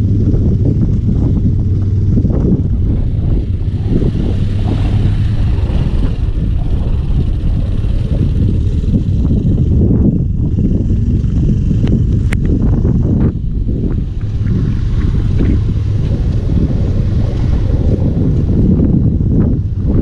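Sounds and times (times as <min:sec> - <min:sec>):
low engine rumble: 0:00.0 - 0:20.0
wind buffeting microphone: 0:00.0 - 0:20.0.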